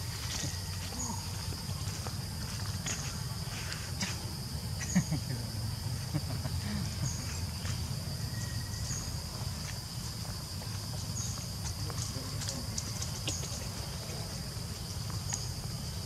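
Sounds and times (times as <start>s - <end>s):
insect chirps: 0.0s - 16.0s
insects droning: 0.0s - 16.0s.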